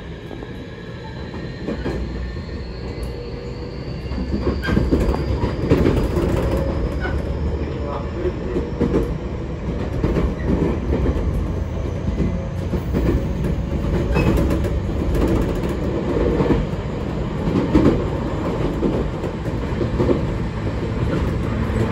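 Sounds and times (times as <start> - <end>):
wheels rumbling on rail: 0.0 - 21.9.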